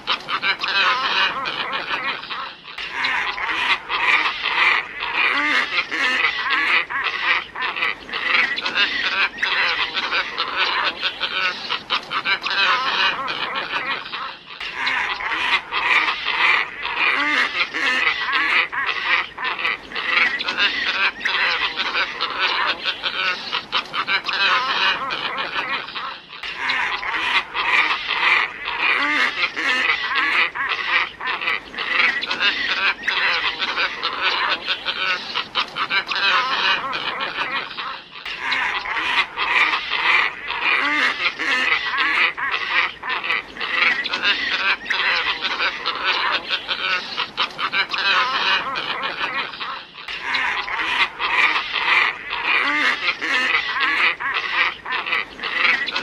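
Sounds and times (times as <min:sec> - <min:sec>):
ibis flock honking calls: 0:00.0 - 0:56.0.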